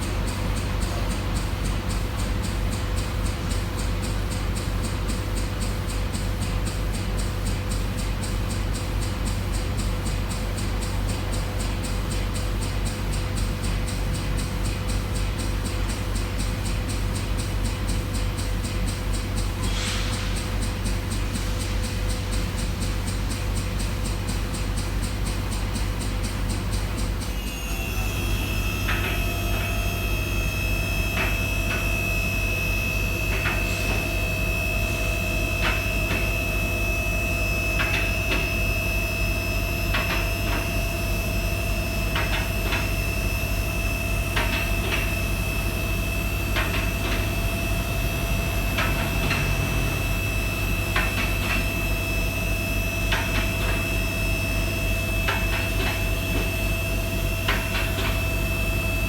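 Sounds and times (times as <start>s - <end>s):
mechanical hum with whine: 0.0s - 59.0s.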